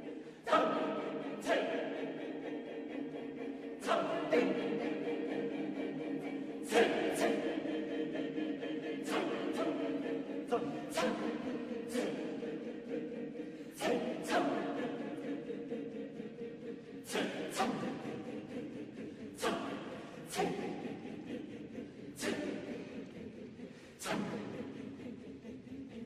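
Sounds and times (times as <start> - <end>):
choir holding chords: 0.0 - 26.0.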